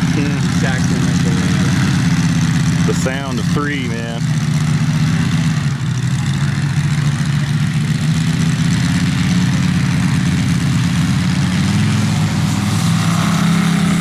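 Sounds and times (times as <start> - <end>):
model plane radial engine idling: 0.0 - 12.6.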